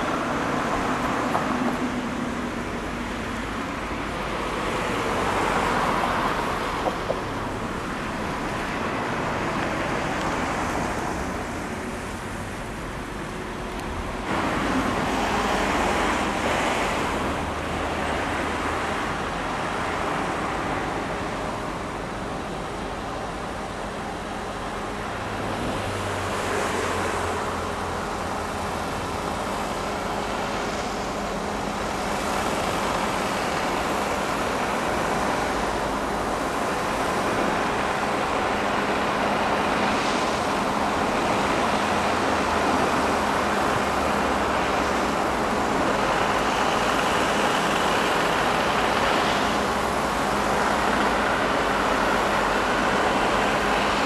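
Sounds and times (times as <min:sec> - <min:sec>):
diesel construction machinery running: 0:00.0 - 0:54.0.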